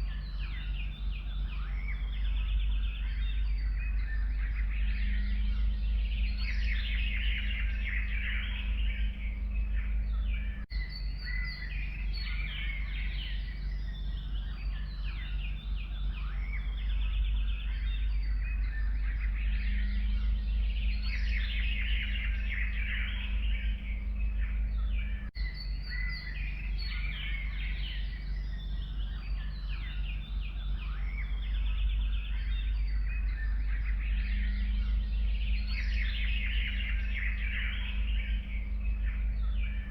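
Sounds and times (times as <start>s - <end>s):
forest songbirds chirping: 0.0s - 39.9s
steady low rumble: 0.0s - 39.9s.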